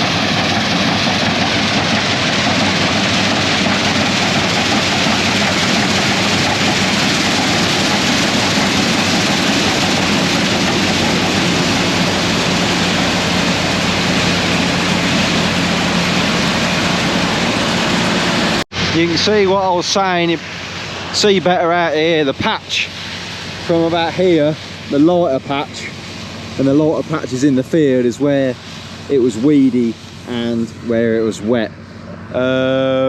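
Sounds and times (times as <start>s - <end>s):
combine harvester engine hum: 0.0s - 33.0s.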